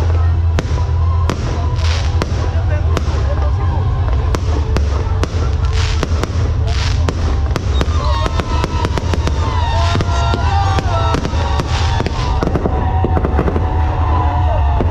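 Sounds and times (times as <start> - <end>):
fireworks bangs and crackle: 0.0 - 14.9.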